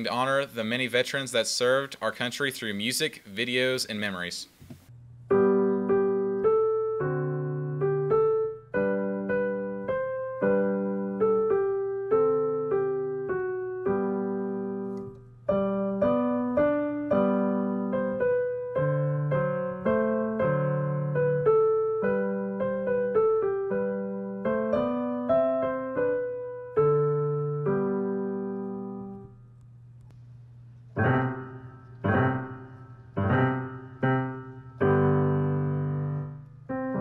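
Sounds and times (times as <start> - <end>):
slow solo piano melody: 5.3 - 29.3, 30.9 - 37.0.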